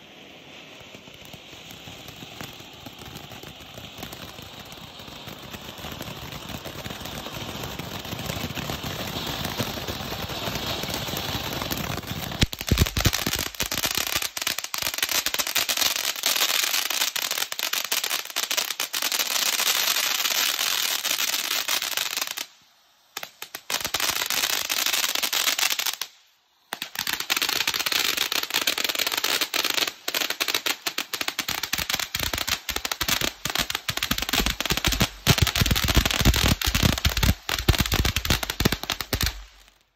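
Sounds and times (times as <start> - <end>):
firework fountain hissing and crackling: 0.0 - 39.9.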